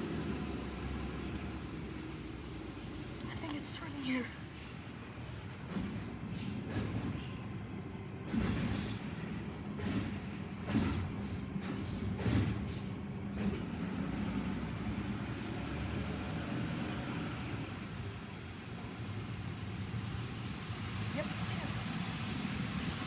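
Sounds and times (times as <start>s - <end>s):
garbage truck diesel engine: 0.0s - 23.0s.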